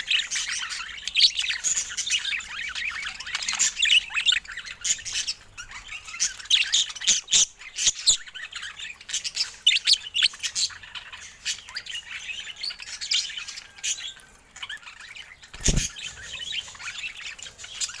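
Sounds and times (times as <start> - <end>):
budgerigars chirping and squawking: 0.1 - 18.0.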